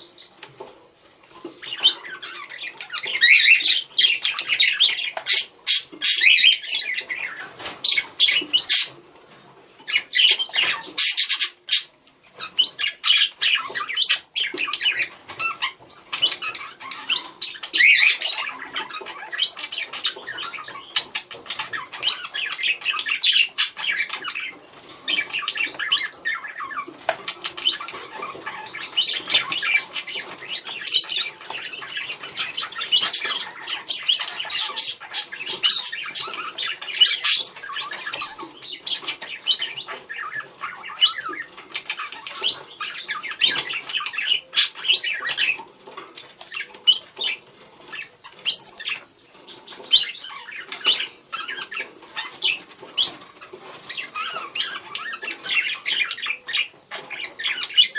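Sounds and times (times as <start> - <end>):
budgerigars chirping and warbling: 0.0 - 57.9.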